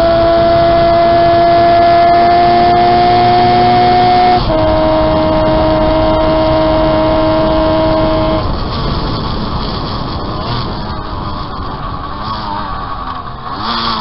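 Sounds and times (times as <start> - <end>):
motorcycle engine revving high: 0.0 - 14.0.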